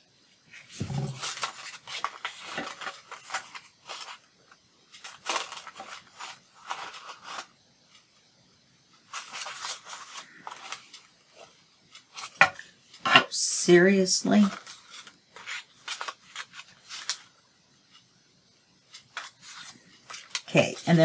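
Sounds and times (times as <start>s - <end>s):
paper crackling and rustling: 0.5s - 8.1s, 9.0s - 13.1s, 14.2s - 18.0s, 18.8s - 21.0s.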